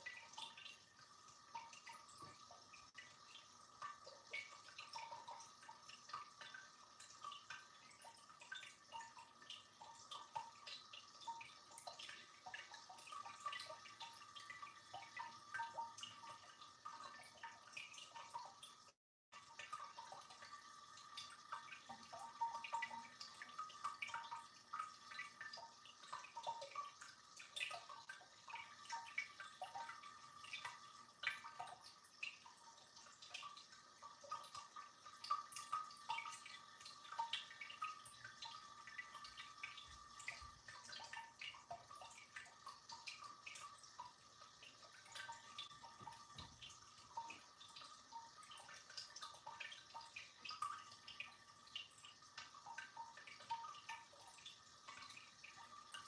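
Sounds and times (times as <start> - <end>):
faint dripping patter: 0.0 - 56.0
water trickling in fountain: 0.0 - 56.0.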